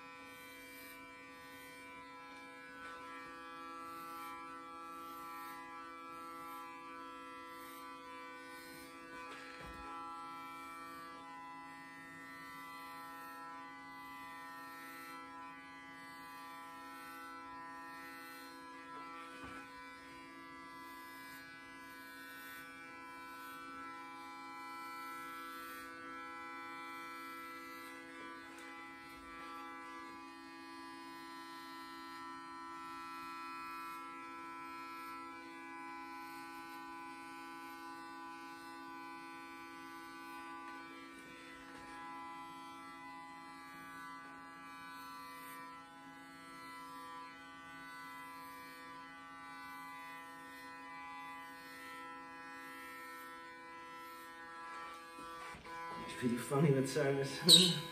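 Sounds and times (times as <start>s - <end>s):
electric hair clippers buzzing: 0.0s - 57.9s.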